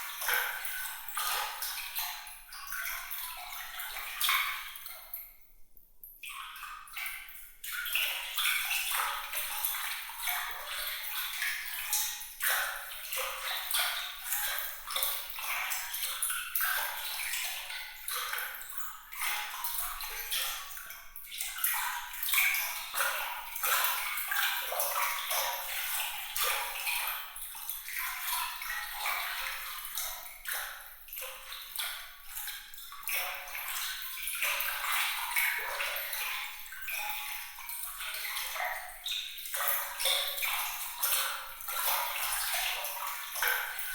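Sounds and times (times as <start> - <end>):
water trickling and dripping: 0.0 - 43.9.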